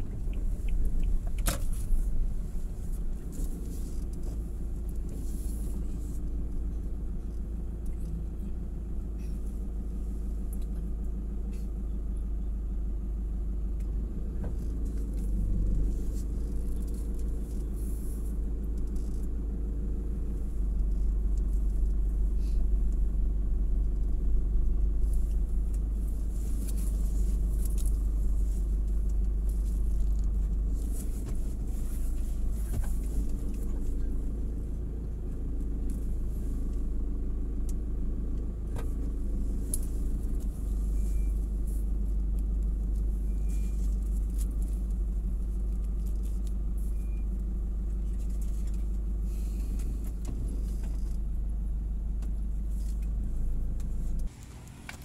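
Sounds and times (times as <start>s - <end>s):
engine rumble and hum: 0.0s - 55.0s.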